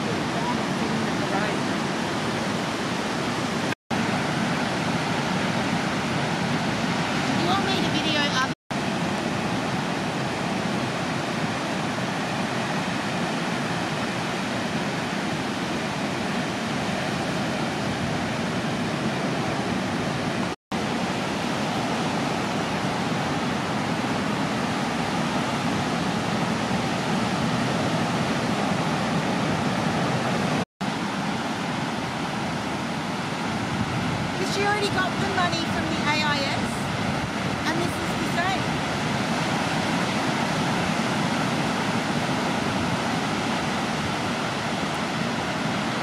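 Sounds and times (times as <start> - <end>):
ocean surf breaking: 0.0 - 46.0.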